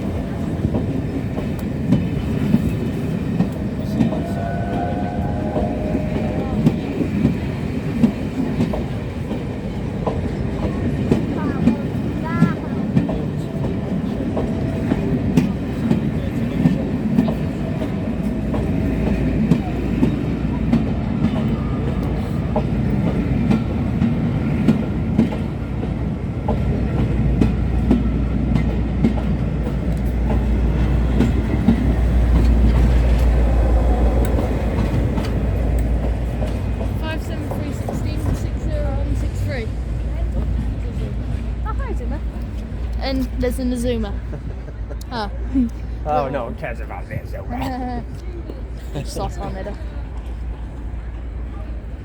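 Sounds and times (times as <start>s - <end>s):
train wheels clicking over rail joints: 0.0s - 45.9s
train rumble: 0.0s - 52.0s.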